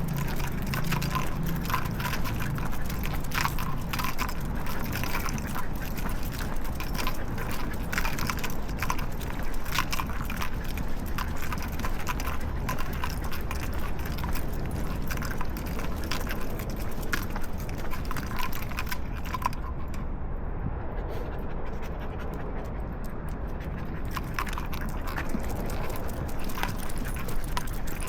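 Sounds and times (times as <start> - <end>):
leash and collar rattling: 0.0 - 20.1, 21.7 - 28.0
low rumble: 0.0 - 28.0.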